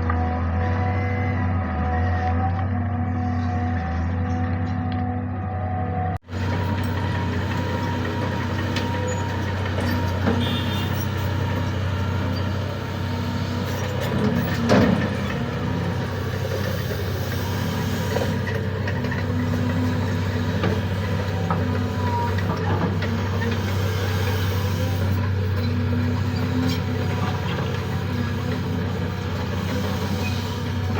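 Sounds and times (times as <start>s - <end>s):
diesel engine running: 0.0s - 30.9s
excavator scrape or clank: 0.1s - 5.2s, 6.3s - 30.9s.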